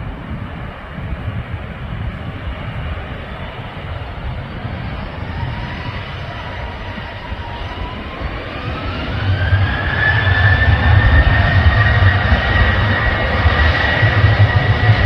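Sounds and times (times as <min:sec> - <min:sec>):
jet engines rumbling: 0:00.0 - 0:15.0
turbine whine: 0:00.0 - 0:15.0.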